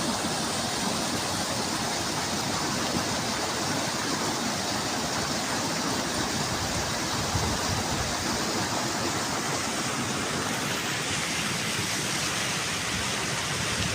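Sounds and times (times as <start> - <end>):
mountain stream rushing: 0.0 - 13.9.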